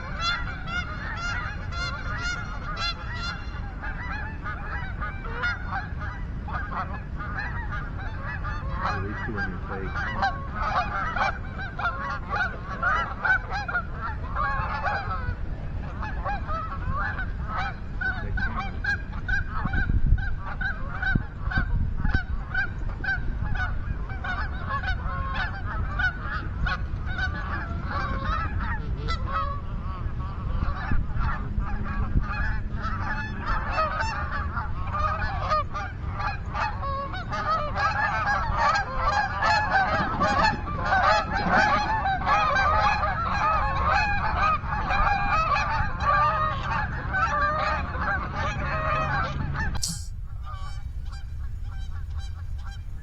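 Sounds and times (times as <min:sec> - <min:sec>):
geese honking and clucking: 0:00.0 - 0:53.0.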